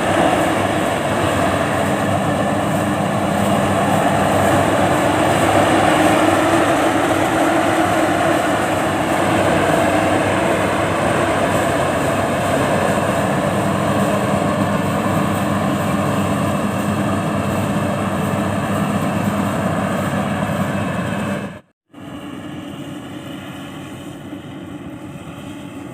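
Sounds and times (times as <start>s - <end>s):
combine harvester engine drone: 0.0s - 25.9s.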